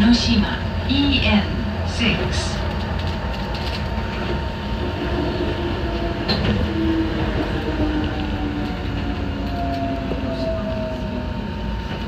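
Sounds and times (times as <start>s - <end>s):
wheel and track rumble: 0.0s - 12.0s.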